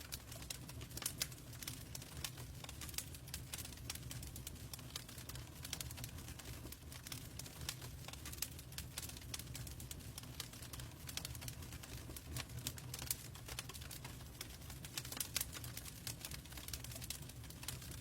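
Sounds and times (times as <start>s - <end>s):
logs crackling in fireplace: 0.0s - 18.0s.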